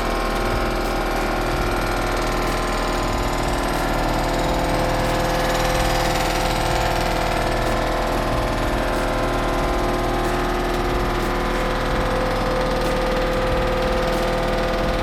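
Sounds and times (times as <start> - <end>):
fast even pulsing: 0.0 - 15.0
shop machine running: 0.0 - 15.0.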